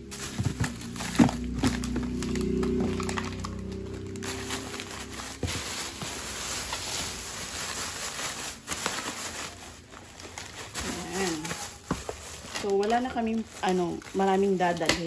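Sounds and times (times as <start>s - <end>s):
packages and bottles knocking: 0.0s - 15.0s
plastic bags crinkling: 0.0s - 15.0s.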